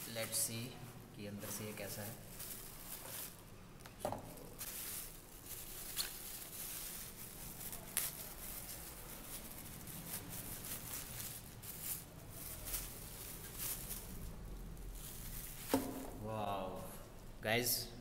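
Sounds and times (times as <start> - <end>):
plastic packaging crinkling: 0.0 - 16.3.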